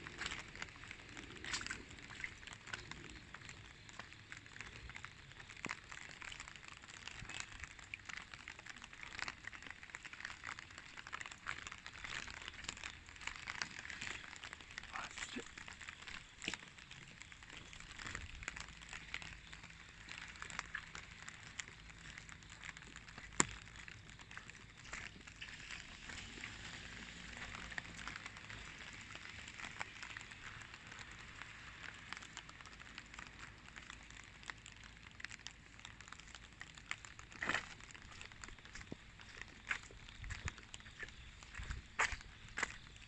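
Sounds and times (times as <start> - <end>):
light rain patter: 0.0 - 43.0.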